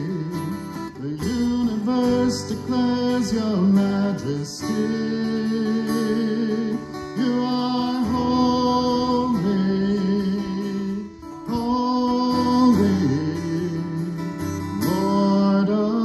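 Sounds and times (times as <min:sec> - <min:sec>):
man singing: 0:00.0 - 0:16.0
strummed acoustic guitar: 0:00.0 - 0:16.0.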